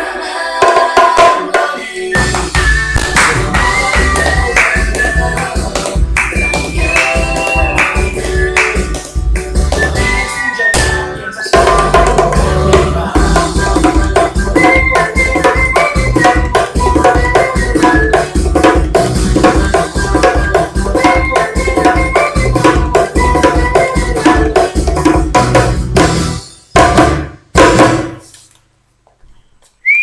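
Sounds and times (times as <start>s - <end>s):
music: 0.0s - 28.3s
bongos played by hand: 0.6s - 28.2s.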